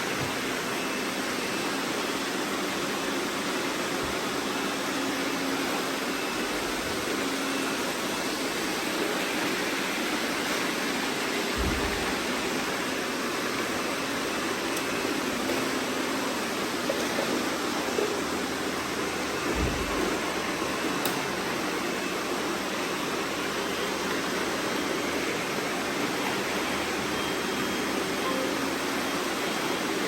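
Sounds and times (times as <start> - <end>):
robot vacuums whirring: 0.1 - 30.0.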